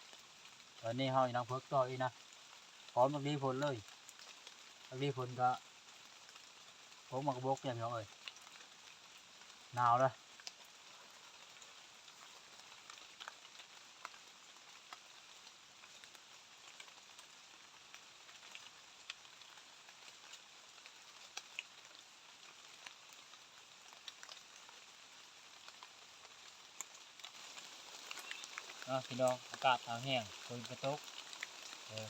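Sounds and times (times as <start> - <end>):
light rain hiss: 0.0 - 32.0
raindrops ticking: 0.0 - 32.0.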